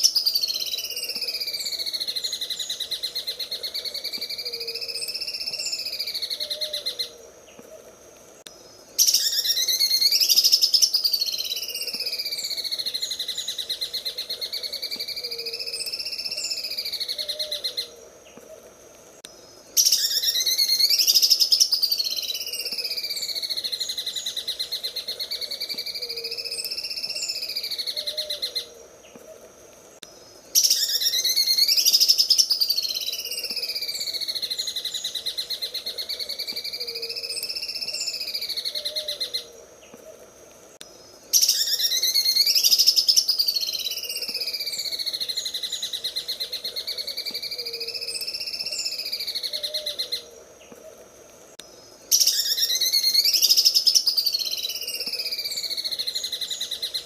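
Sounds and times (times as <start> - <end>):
bird singing rattling song: 0.0 - 7.7, 8.4 - 18.5, 19.2 - 29.4, 30.0 - 40.1, 40.8 - 50.9, 51.6 - 57.0.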